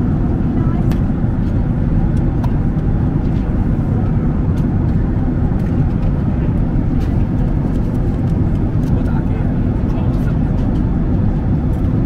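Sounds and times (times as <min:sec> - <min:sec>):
airliner cabin engine rush: 0:00.0 - 0:12.0.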